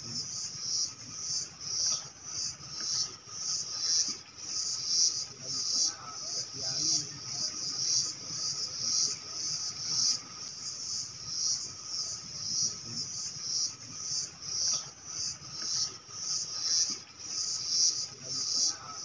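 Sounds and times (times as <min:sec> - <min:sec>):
insects calling in pulses: 0:00.0 - 0:19.0.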